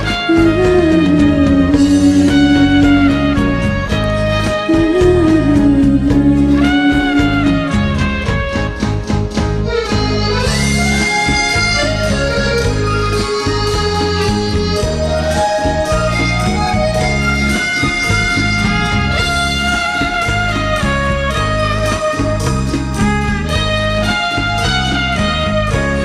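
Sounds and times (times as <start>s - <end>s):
instrumental karaoke backing track: 0.0s - 26.0s.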